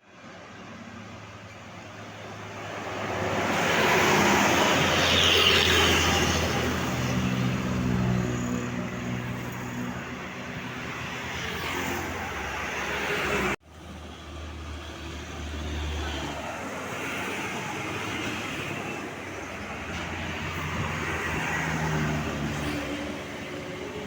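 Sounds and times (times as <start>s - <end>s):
bus driving past: 0.1s - 24.0s.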